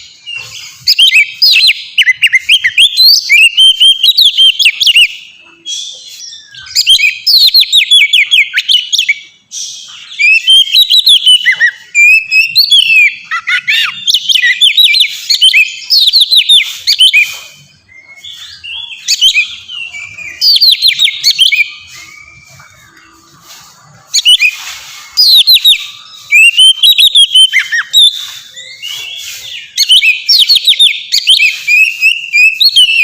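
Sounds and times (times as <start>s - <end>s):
bird singing whistles and trills: 0.0s - 33.0s.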